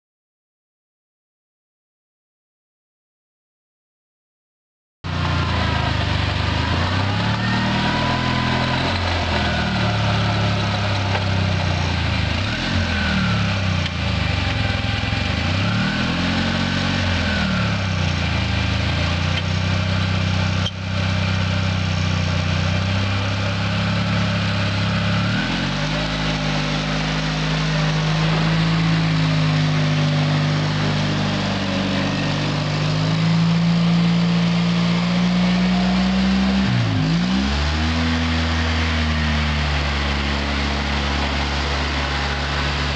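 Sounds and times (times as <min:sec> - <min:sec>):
small car engine labouring: 0:05.1 - 0:42.9.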